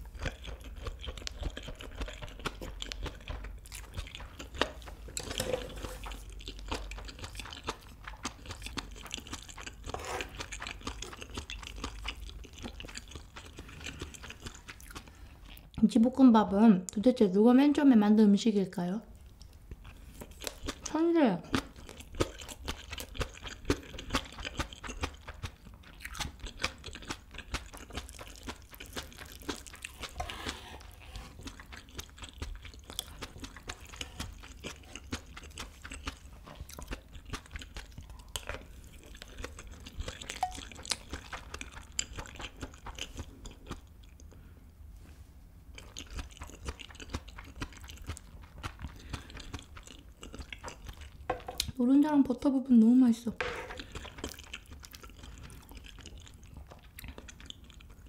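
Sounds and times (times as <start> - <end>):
wet chewing and crunching: 0.0 - 15.8, 19.2 - 51.8, 53.4 - 58.0.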